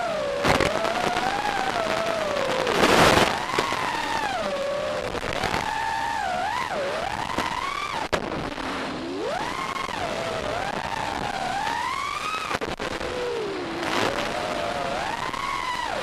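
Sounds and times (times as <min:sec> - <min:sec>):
drone motors whining: 0:00.0 - 0:16.0
steady hiss: 0:00.0 - 0:16.0.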